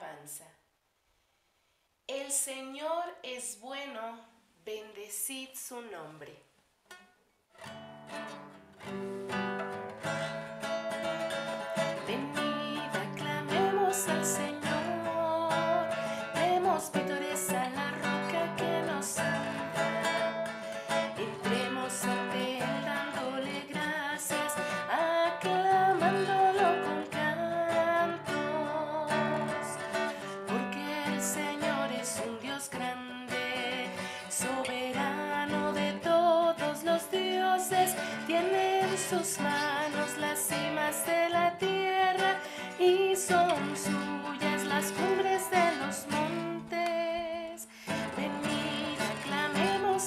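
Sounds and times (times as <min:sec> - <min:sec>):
woman singing: 0:02.1 - 0:06.3, 0:11.5 - 0:50.0
acoustic guitar strumming: 0:06.9 - 0:50.0.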